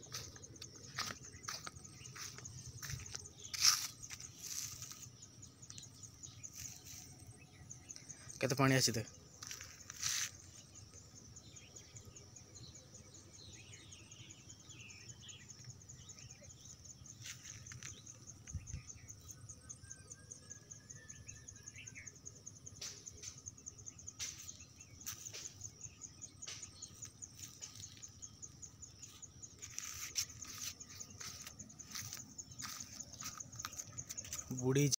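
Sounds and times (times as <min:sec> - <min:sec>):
insect trilling: 0:00.0 - 0:13.2, 0:15.2 - 0:34.9.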